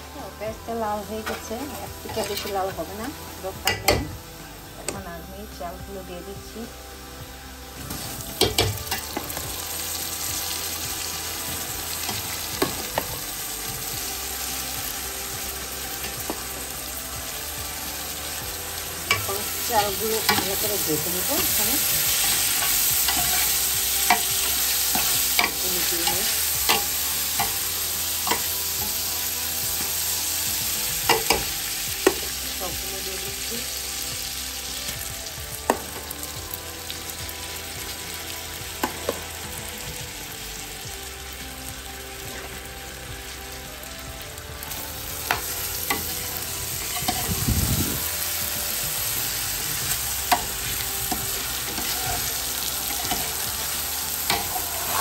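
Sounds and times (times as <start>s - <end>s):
rice sizzling in oil: 0.0s - 55.0s.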